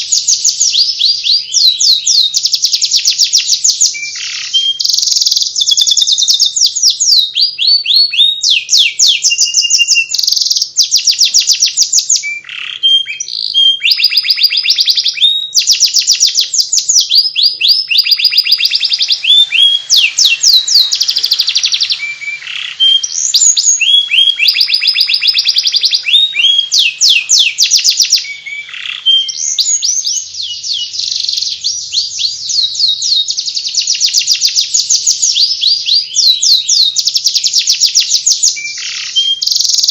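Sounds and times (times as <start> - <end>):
canary twittering chirps: 0.0 - 39.9.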